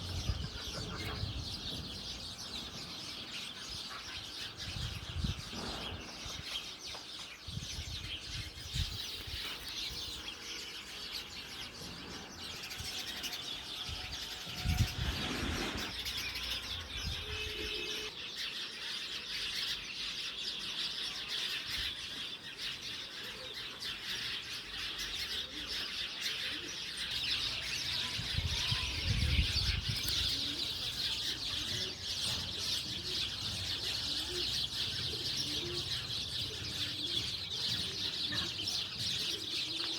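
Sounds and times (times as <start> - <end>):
birds chirping: 0.0 - 18.6, 23.9 - 39.9.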